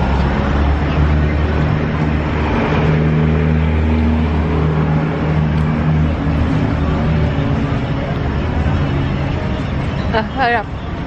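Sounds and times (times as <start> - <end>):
engine running steadily: 0.0 - 11.0
outdoor background noise: 0.0 - 11.0.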